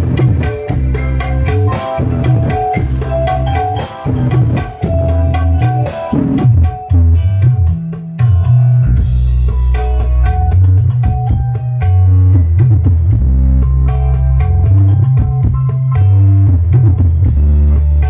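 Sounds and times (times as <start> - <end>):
loud music with guitar and drums: 0.0 - 18.0.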